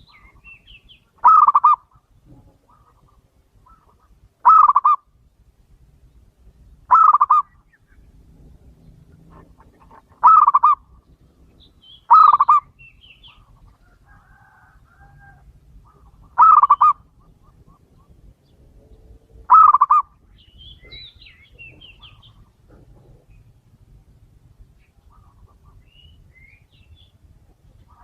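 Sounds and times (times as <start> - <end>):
dove trilled cooing: 0.0 - 5.1, 6.9 - 7.8, 8.6 - 23.6, 24.9 - 26.4.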